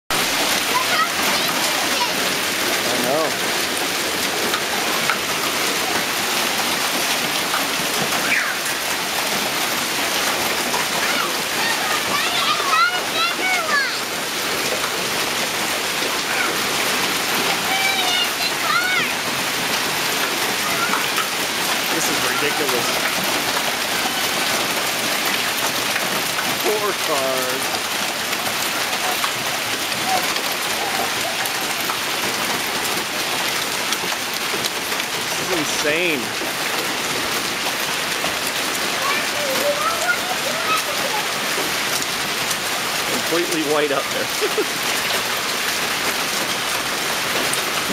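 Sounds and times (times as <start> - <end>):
hailstones pelting pavement and roofs: 0.1 - 47.9.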